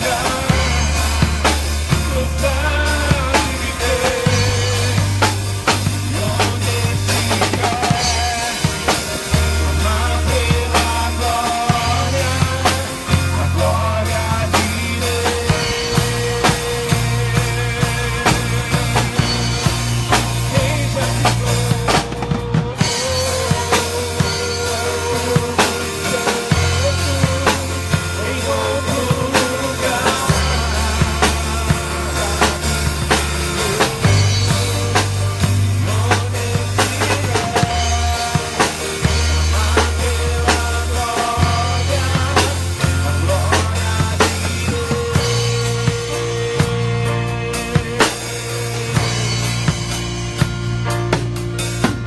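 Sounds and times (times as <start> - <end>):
drum kit beat: 0.0 - 52.0
held bass notes: 0.0 - 52.0.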